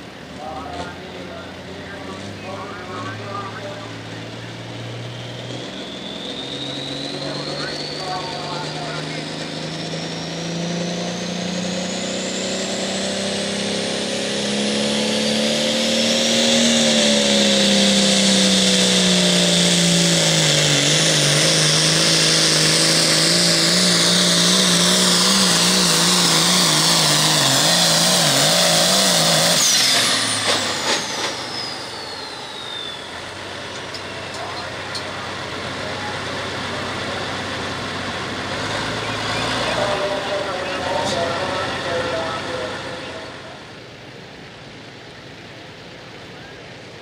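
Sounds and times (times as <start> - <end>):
diesel tractor engine at full throttle: 0.0 - 47.0
high turbo whine: 0.0 - 47.0.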